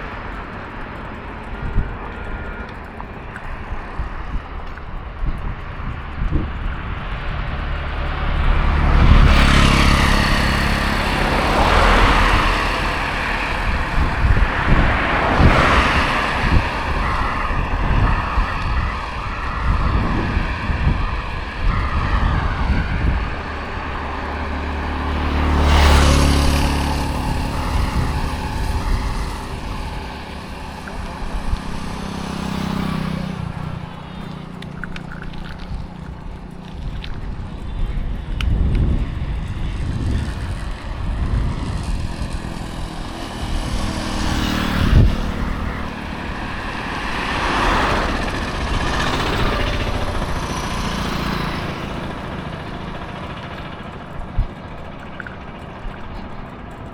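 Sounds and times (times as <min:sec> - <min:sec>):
road traffic passing: 0:00.0 - 0:56.9.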